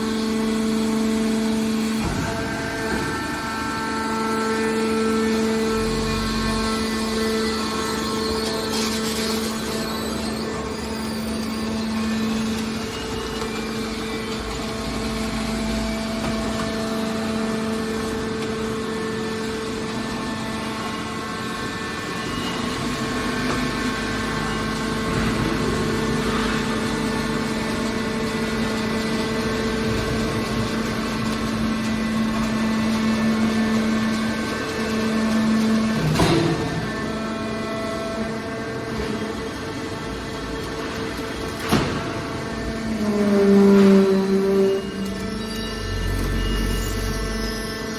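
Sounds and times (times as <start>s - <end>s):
baler motor and pump humming: 0.0s - 47.9s.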